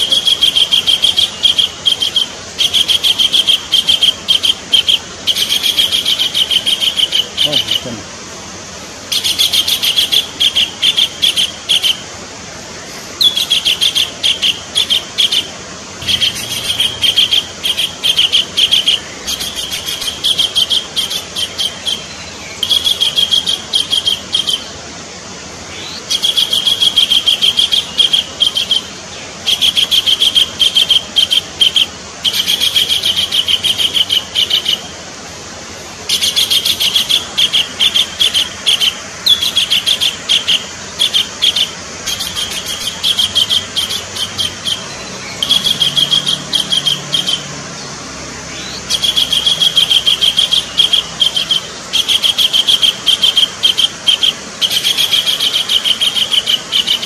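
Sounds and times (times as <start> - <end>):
kingfisher calling: 0.0 - 8.2, 9.0 - 24.8, 25.7 - 35.0, 35.9 - 57.0
background hiss: 0.0 - 57.0.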